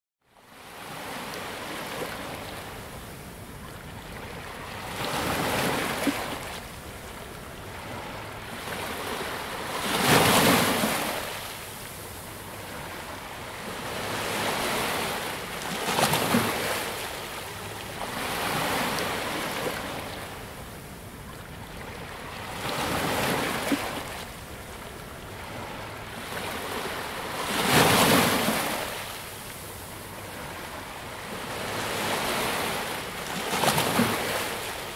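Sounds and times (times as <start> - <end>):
ocean waves breaking: 0.6 - 34.9.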